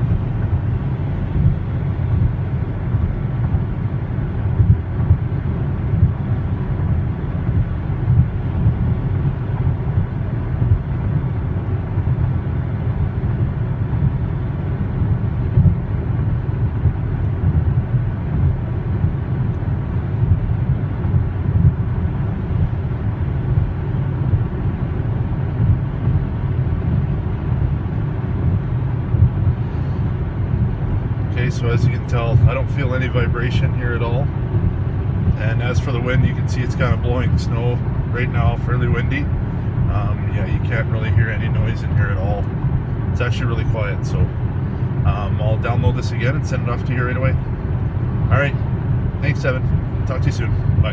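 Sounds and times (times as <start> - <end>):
car cabin road and wind noise: 0.0 - 50.9.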